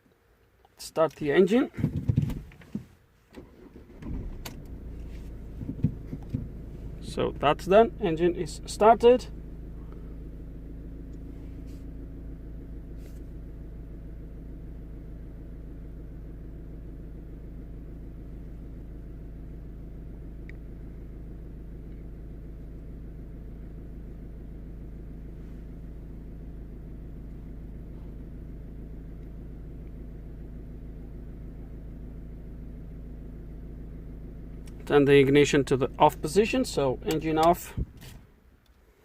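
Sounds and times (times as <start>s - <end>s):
diesel engine idling: 3.0s - 39.0s.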